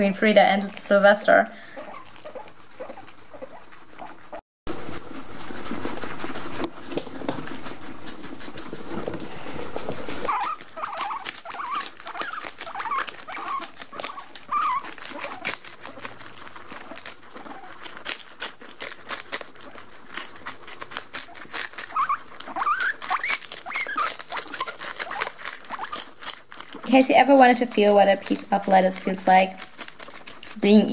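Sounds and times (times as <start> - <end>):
guinea pigs chewing lettuce: 0.0 - 30.9
steady rustling: 0.0 - 30.9
guinea pig squeaks: 0.1 - 9.2, 10.0 - 30.9.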